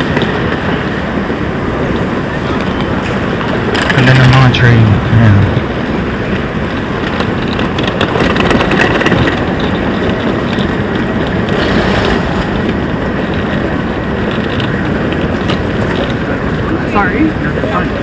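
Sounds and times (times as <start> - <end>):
steady train rumble: 0.0 - 18.0.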